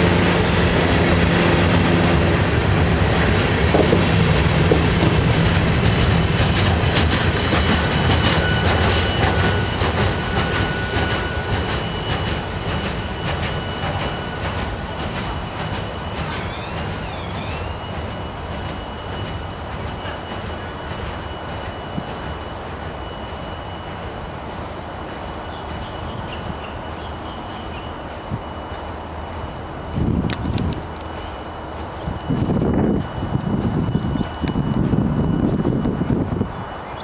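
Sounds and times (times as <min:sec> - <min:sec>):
freight train cars rolling: 0:00.0 - 0:37.0
high-pitched wheel squeal: 0:00.0 - 0:37.0.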